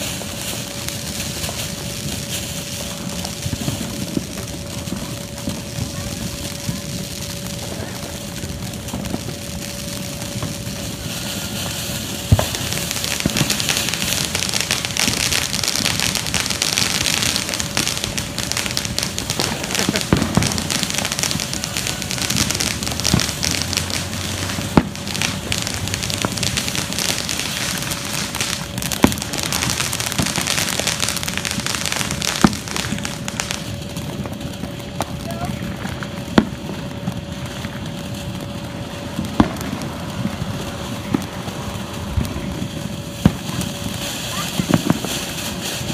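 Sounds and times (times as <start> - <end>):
firework sparks hissing and crackling: 0.0 - 45.9
sharp firework pops: 8.9 - 45.9.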